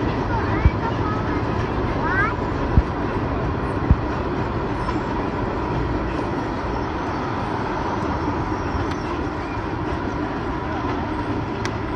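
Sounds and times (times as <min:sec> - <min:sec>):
train rumbling across trestle: 0:00.0 - 0:11.9.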